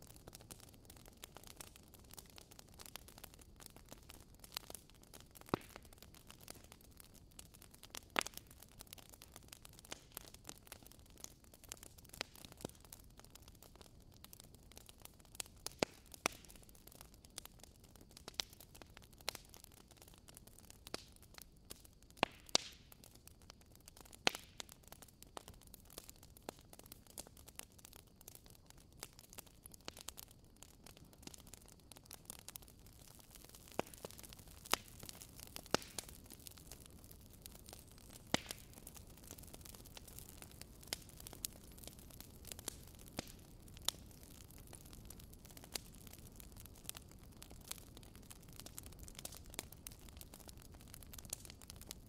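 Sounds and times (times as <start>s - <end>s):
faint steady hiss: 0.0s - 52.0s
fire crackling with pops: 0.0s - 52.0s.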